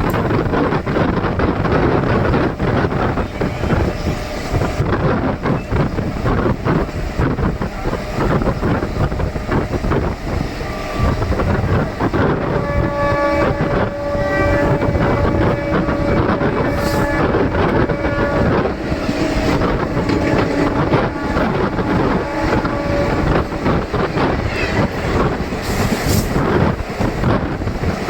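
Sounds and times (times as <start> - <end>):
train wheels rumbling on track: 0.0 - 28.0
wind on microphone: 0.0 - 28.0.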